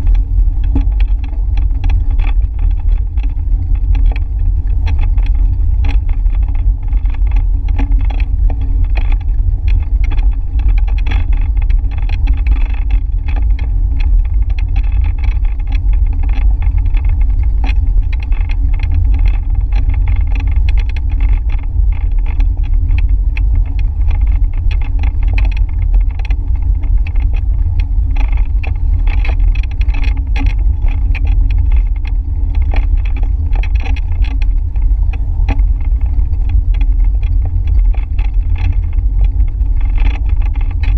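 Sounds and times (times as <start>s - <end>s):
road rumble: 0.0s - 40.9s
small rattles and clicks: 0.0s - 40.9s
wind on microphone: 0.0s - 40.9s.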